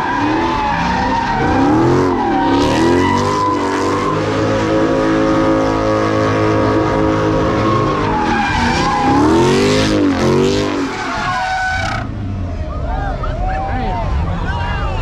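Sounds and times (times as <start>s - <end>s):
tyres screeching: 0.0s - 12.1s
car engine revving: 0.0s - 12.7s.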